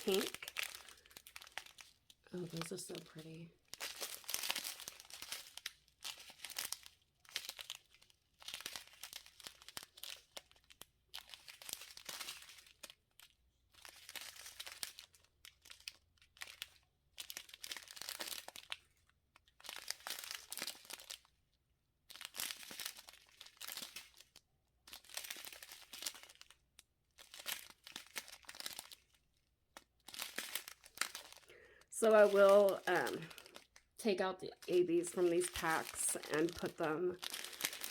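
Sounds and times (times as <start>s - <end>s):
plastic packs crinkling: 0.0s - 21.4s, 22.1s - 37.9s.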